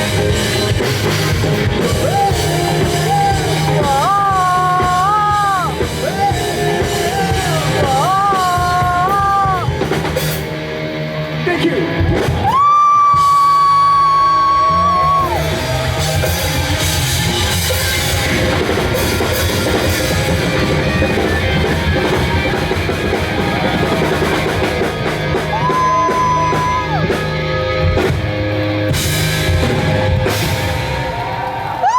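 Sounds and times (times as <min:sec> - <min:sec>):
rock band playing live: 0:00.0 - 0:31.9.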